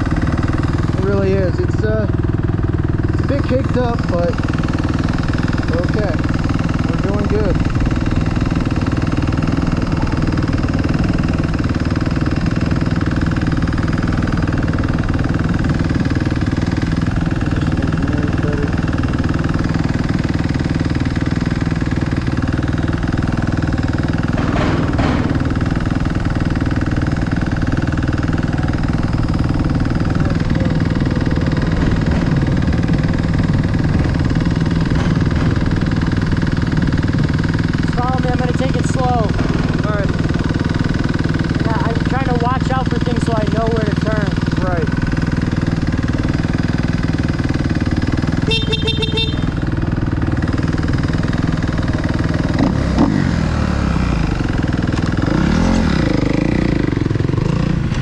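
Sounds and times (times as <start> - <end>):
dirt bike engines idling: 0.0 - 58.0.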